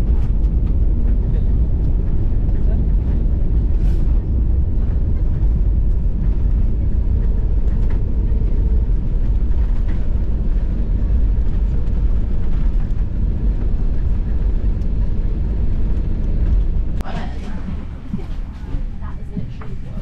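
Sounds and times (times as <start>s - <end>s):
aircraft engine hum: 0.0s - 20.0s
undercarriage rolling on pavement: 0.0s - 20.0s.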